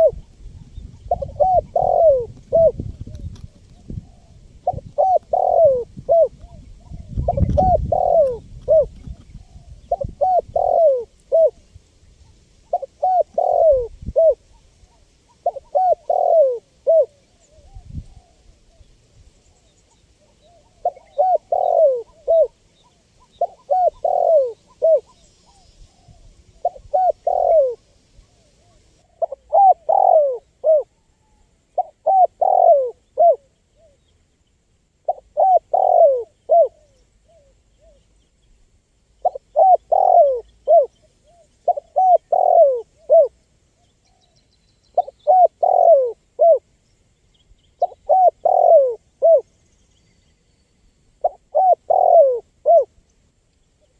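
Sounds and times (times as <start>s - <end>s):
dove cooing: 0.0s - 11.7s, 12.7s - 18.8s, 20.2s - 34.0s, 35.0s - 38.0s, 39.2s - 43.4s, 45.0s - 46.7s, 47.8s - 49.5s, 51.2s - 53.0s.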